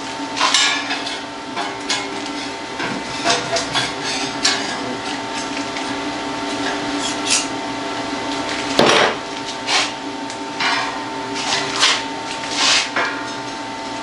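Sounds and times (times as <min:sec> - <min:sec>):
shop equipment humming: 0:00.0 - 0:14.0.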